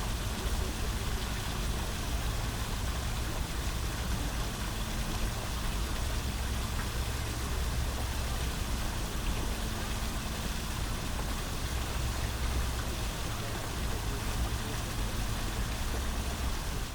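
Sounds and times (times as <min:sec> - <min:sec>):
fountain splashing: 0:00.0 - 0:16.9.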